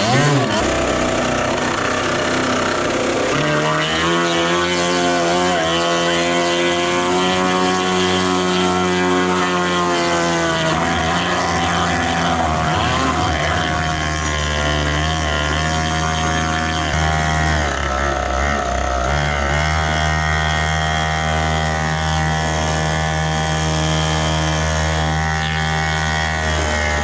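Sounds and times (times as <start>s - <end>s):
two-stroke engines under load: 0.0s - 27.0s.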